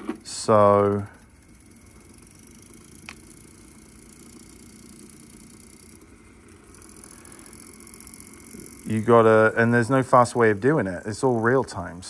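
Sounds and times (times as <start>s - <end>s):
faint motor whine: 0.0s - 12.0s
tape cleaning machine running: 0.0s - 12.0s.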